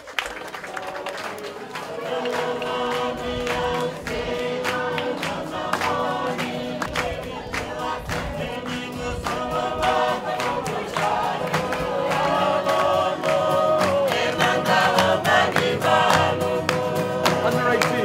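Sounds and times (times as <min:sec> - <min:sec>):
group singing in harmony: 0:00.4 - 0:18.0.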